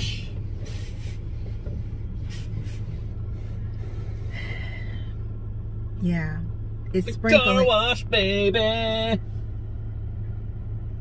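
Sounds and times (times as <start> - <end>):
car idling: 0.0 - 11.0.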